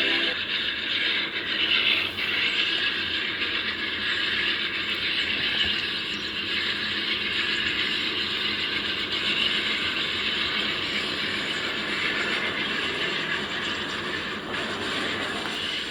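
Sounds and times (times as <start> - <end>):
train wheels on rails: 0.0 - 15.9.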